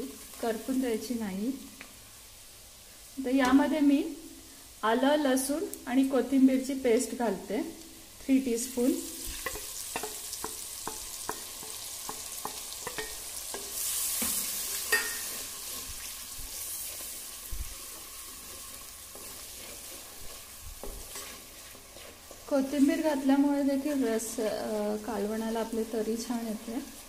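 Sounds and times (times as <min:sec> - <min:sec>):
paste sizzling in hot oil: 0:00.0 - 0:27.0.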